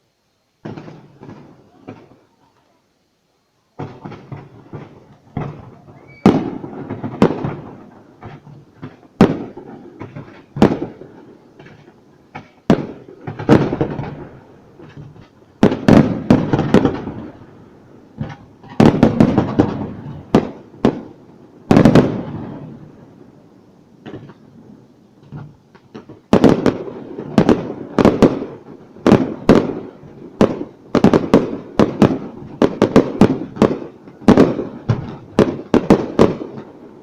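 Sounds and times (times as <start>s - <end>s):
fireworks bursting with loud bangs: 0.0s - 37.0s.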